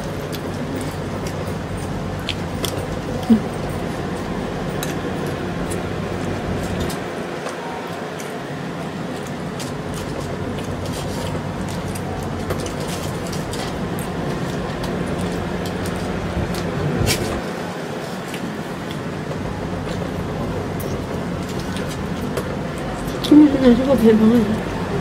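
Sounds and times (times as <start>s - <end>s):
rushing background noise: 0.0s - 25.0s.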